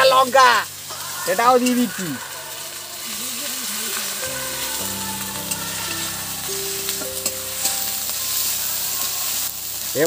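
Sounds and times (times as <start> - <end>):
pastes sizzling in hot oil: 0.0 - 10.0.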